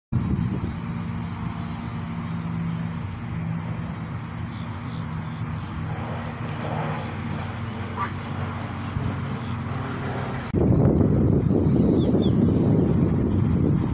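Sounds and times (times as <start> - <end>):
low engine drone: 0.2 - 11.7.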